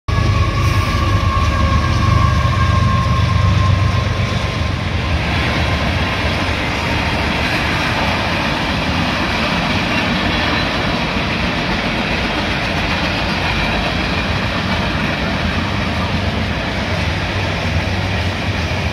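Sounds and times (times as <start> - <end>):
diesel locomotive rumble and whine: 0.1 - 18.9
rail cars rolling on steel rails: 0.1 - 18.9.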